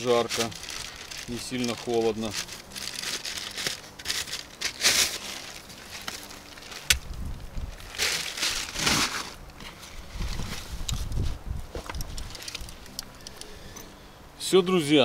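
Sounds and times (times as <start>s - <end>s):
bag rustling and crinkling: 0.0s - 13.5s.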